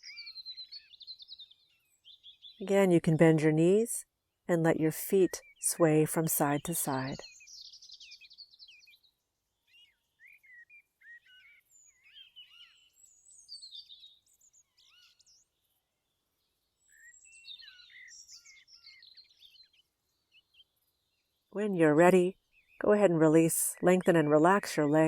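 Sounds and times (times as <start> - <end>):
faint birds chirping: 0.0 - 3.8, 4.5 - 25.0.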